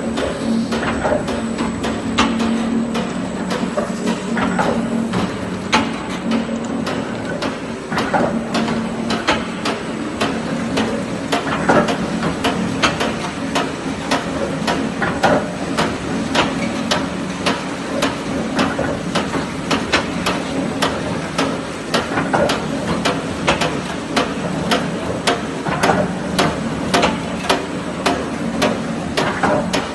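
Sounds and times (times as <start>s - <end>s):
machine clacking: 0.1s - 29.9s.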